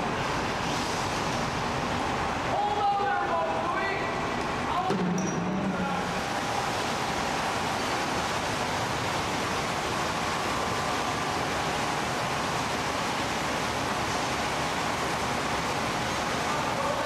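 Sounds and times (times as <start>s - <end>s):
pump machinery rushing noise: 0.0s - 17.0s.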